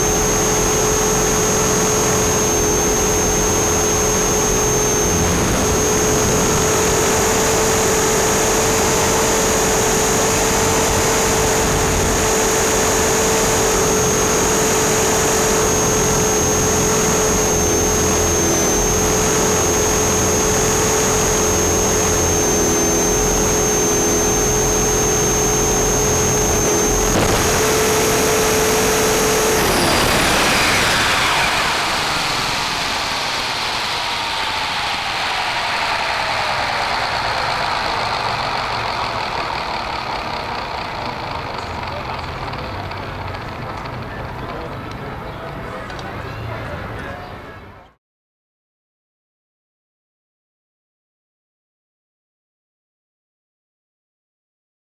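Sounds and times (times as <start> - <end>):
rc helicopter motor and rotor whine: 0.0 - 46.0.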